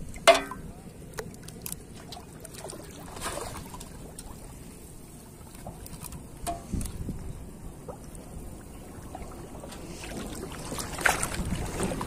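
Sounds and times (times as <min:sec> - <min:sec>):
water lapping and splashing: 0:00.0 - 0:12.0.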